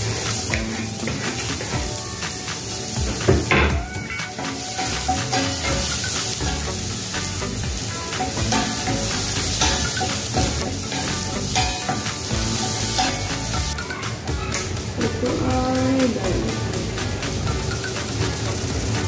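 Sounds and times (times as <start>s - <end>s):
onion sizzling in a pan: 0.0s - 19.0s.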